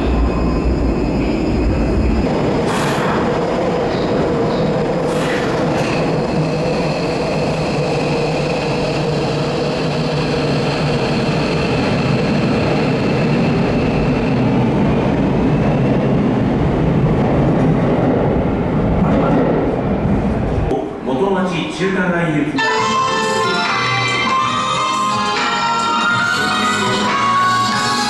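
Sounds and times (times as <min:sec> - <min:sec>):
electric train rumbling: 0:00.0 - 0:21.1, 0:22.4 - 0:28.0.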